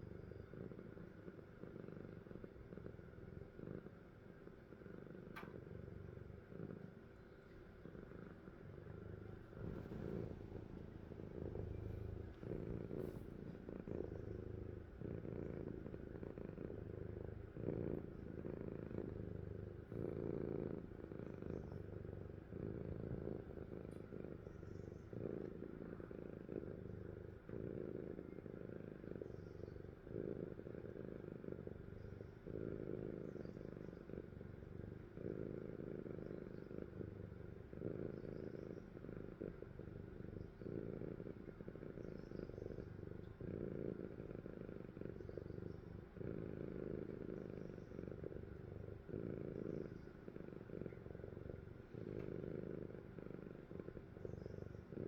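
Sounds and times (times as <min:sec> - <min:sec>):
cat breathing rumble: 0:07.6 - 0:55.0.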